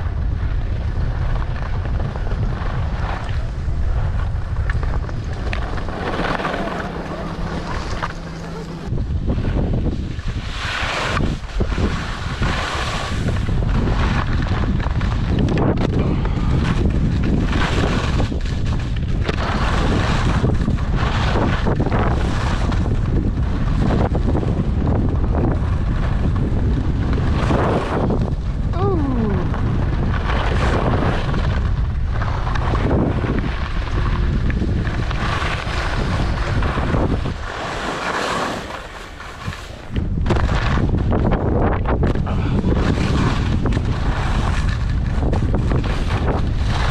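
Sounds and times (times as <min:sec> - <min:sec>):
wind buffeting microphone: 0:00.0 - 0:46.9
skis scraping on snow: 0:00.2 - 0:28.5, 0:29.4 - 0:46.9.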